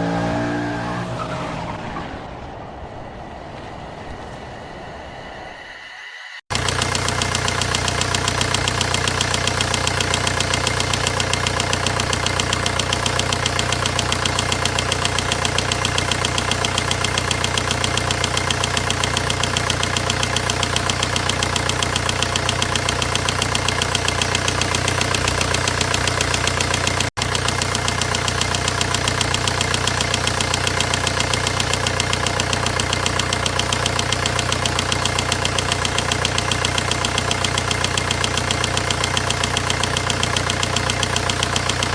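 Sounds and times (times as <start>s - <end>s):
diesel engine clattering: 6.5s - 41.9s.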